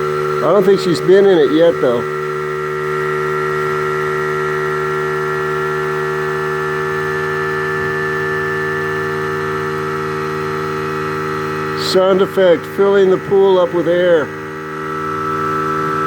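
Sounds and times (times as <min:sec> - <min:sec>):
air compressor humming: 0:00.0 - 0:16.0.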